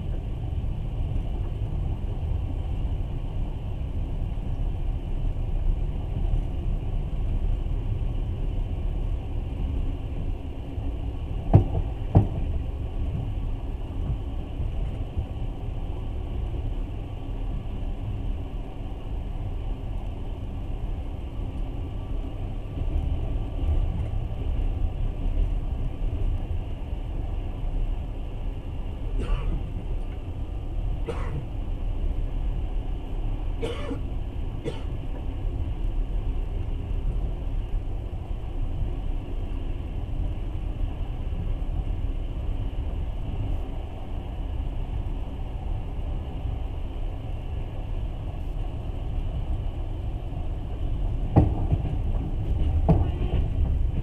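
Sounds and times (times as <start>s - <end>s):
train rumble inside carriage: 0.0s - 54.0s.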